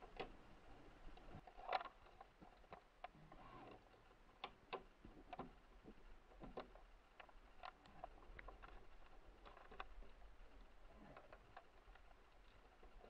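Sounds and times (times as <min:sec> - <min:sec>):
small clicks and taps on metal: 0:00.0 - 0:00.4, 0:01.1 - 0:13.0.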